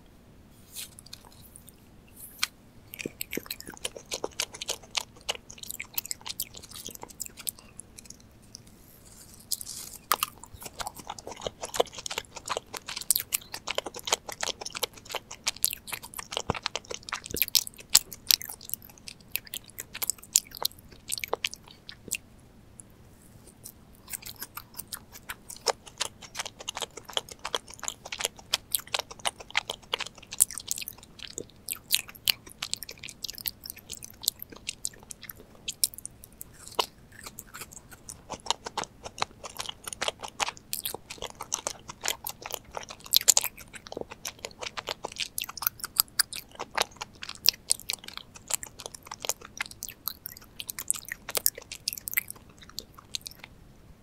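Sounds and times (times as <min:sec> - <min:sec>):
crisp chewing crunches: 0:00.7 - 0:22.2, 0:23.4 - 0:53.5.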